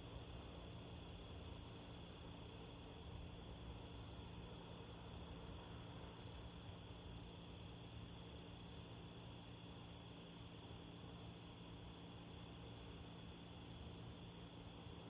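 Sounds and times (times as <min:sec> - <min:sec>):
faint crickets chirping: 0:00.0 - 0:15.0.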